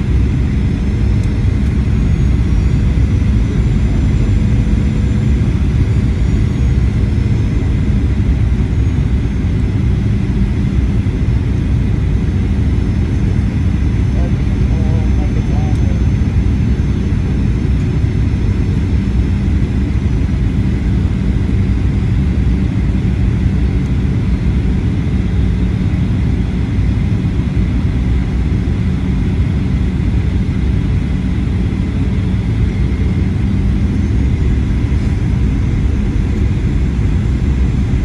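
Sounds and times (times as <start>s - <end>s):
airplane cabin rumble: 0.0s - 38.0s
faint steady whine: 0.0s - 38.0s.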